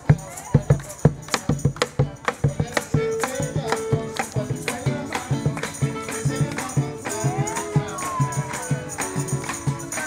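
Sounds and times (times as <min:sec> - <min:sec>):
rattling percussion: 0:00.0 - 0:10.0
strummed small guitar: 0:00.6 - 0:10.0.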